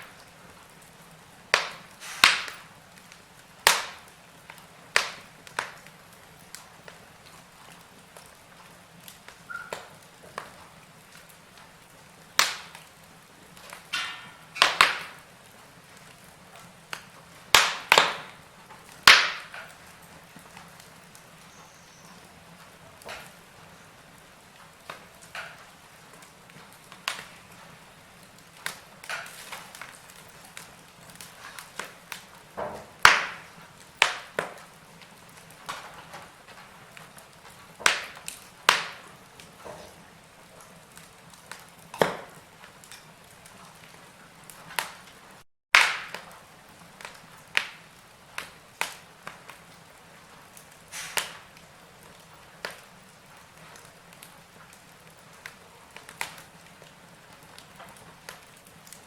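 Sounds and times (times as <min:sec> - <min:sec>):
faint steady hiss: 0:00.0 - 0:59.0
fire pops: 0:00.0 - 0:59.0
wood fire crackling: 0:00.0 - 0:59.0.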